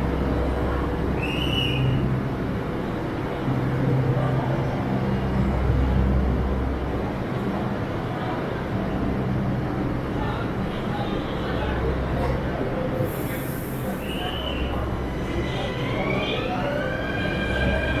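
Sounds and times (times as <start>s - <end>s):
train rumble and hum: 0.0s - 18.0s.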